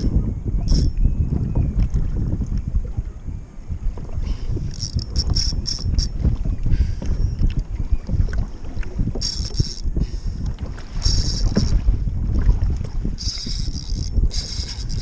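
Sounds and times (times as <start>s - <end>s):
water moving around kayak: 0.0s - 15.0s
wind buffeting microphone: 0.0s - 15.0s.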